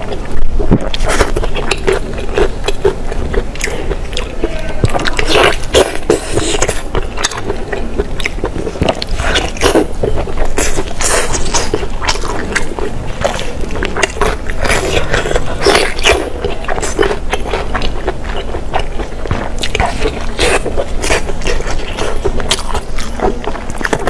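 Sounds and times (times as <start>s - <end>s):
chewing and biting: 0.0s - 24.0s.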